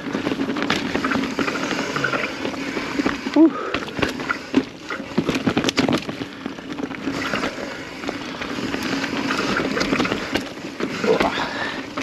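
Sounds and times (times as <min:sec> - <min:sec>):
bike frame and chain rattling: 0:00.0 - 0:12.0
bike tyres on dirt and rock: 0:00.0 - 0:12.0.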